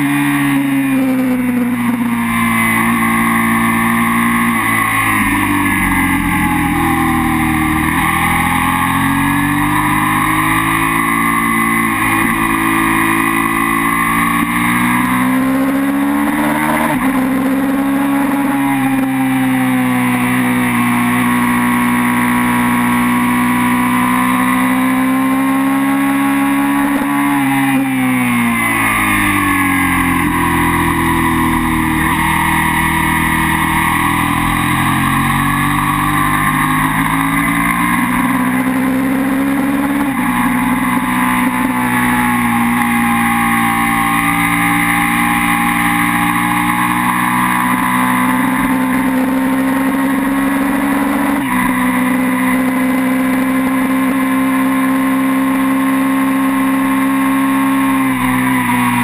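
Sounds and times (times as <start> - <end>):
motorcycle engine racing: 0.0 - 59.0.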